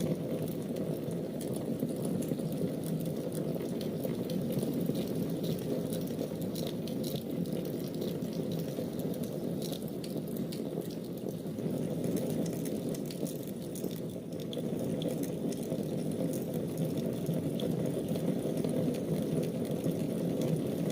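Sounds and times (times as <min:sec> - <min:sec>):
fire burning in fireplace: 0:00.0 - 0:20.9
fire crackles and pops: 0:00.0 - 0:20.9.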